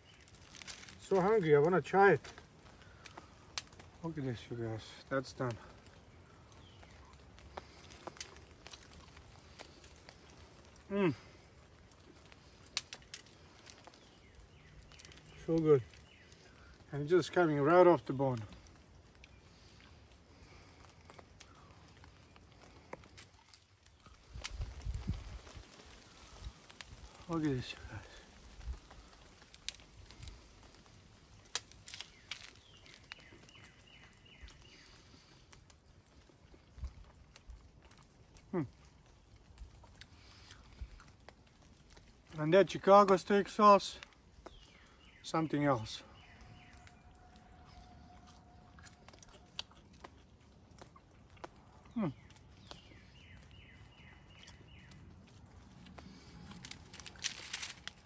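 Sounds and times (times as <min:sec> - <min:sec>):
sharp clicks and crackles: 0:00.0 - 0:04.1, 0:05.2 - 0:17.4, 0:18.0 - 0:44.9, 0:46.2 - 0:58.0.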